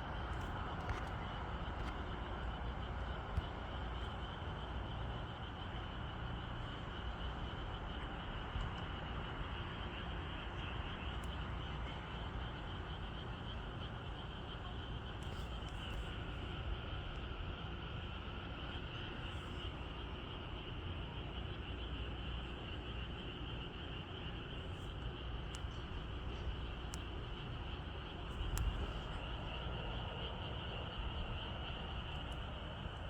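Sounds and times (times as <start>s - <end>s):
frogs or insects chorus: 0.0s - 33.0s.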